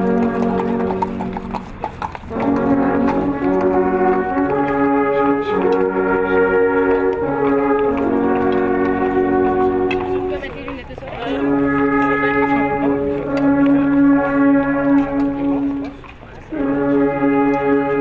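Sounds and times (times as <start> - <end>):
brass playing held chords: 0.0 - 18.0.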